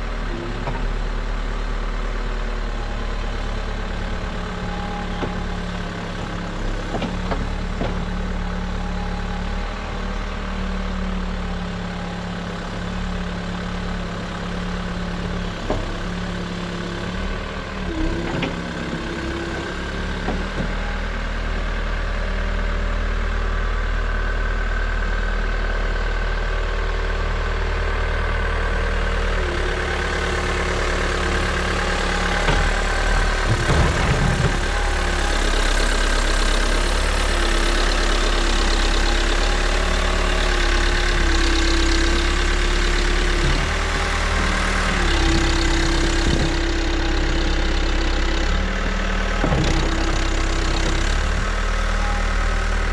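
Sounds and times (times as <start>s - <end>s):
diesel engine idling: 0.0s - 22.3s, 23.0s - 52.9s.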